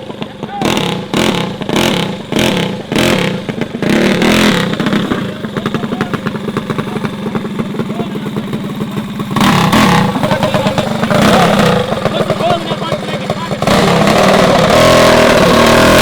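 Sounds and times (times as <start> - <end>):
minibike engine revving: 0.0 - 16.0.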